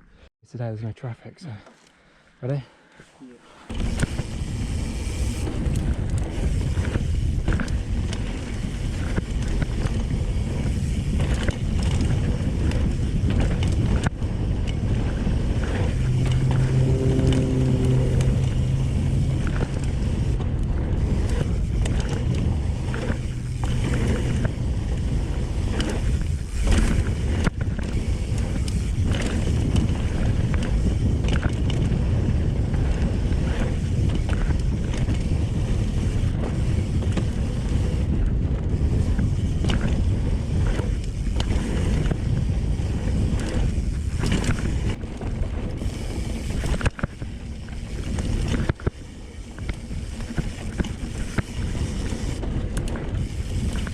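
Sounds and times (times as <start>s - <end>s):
bike clicks: 3.7s - 53.9s
wind buffeting microphone: 3.7s - 53.9s.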